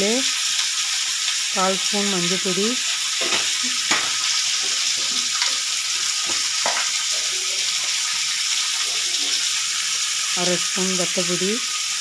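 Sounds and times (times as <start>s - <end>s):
green beans sizzling in oil: 0.0s - 12.0s.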